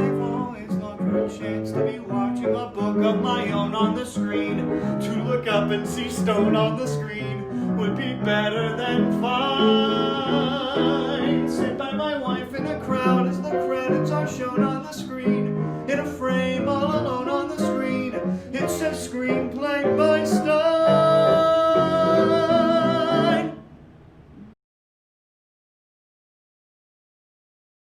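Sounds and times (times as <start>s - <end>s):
person singing: 0.0s - 23.6s
guitar accompaniment: 0.0s - 23.7s.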